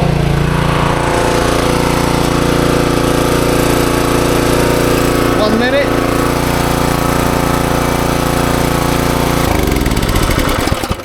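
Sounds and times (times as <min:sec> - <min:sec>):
pressure washer engine: 0:00.0 - 0:11.0
water spraying: 0:00.0 - 0:11.0.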